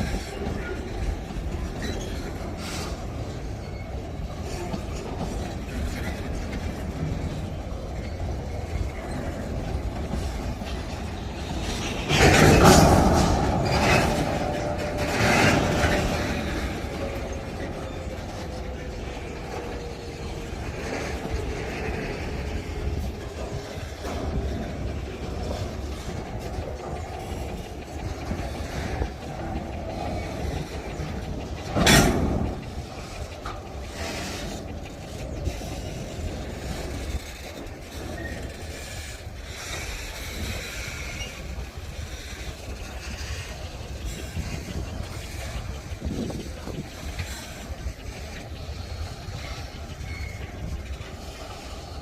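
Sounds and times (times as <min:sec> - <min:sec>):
train wheels clattering on rails: 0:00.0 - 0:52.0.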